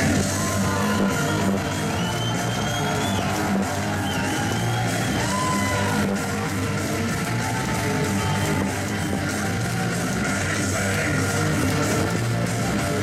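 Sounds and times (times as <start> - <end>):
hard rock music over loudspeakers: 0.0 - 13.0.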